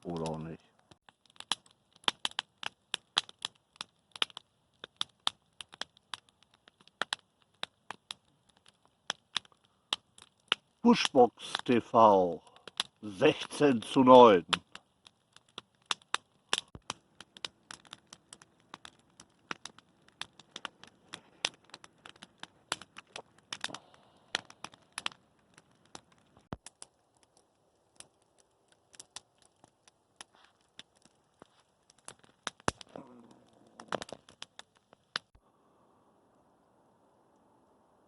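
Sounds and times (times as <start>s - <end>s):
campfire wood crackling and popping: 0.0s - 35.4s.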